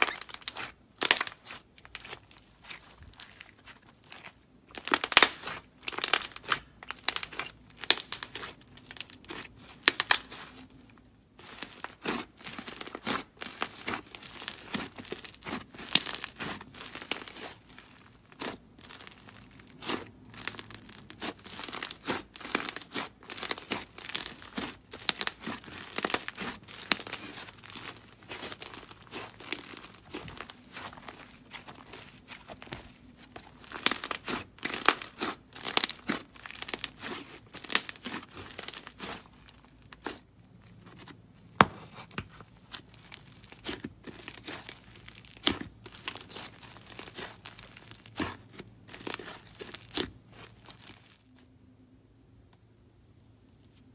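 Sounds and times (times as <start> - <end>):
hands squishing clay slime: 0.0 - 53.9.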